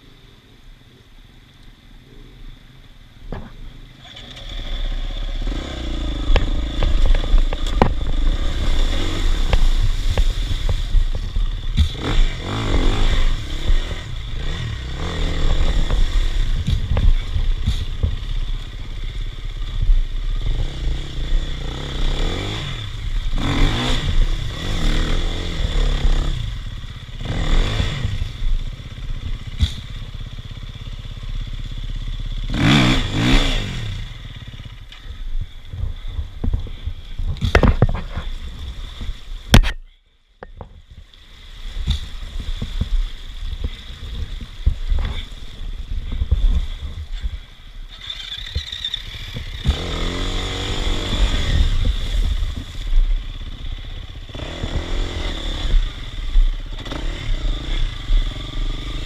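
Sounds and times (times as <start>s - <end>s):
dirt bike engine revving: 3.4s - 39.7s, 41.8s - 59.0s.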